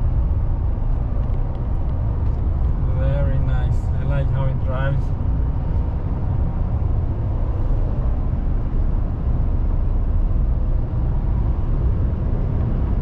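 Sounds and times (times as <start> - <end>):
road tyre and engine rumble: 0.0 - 13.0.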